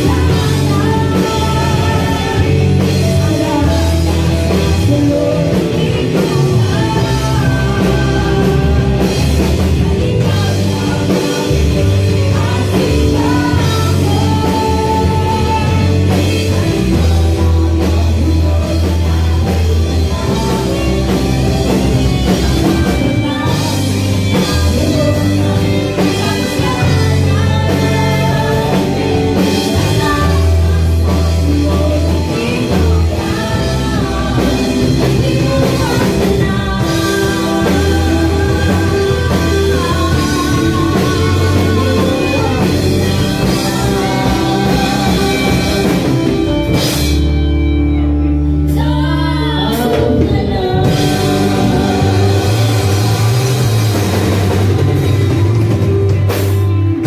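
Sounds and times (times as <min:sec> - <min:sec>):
woman singing into a microphone: 0:00.0 - 0:47.0, 0:48.7 - 0:54.4
bass guitar: 0:00.0 - 0:57.0
drum kit: 0:00.0 - 0:57.0
electric guitars: 0:00.0 - 0:57.0
keyboard: 0:00.0 - 0:57.0.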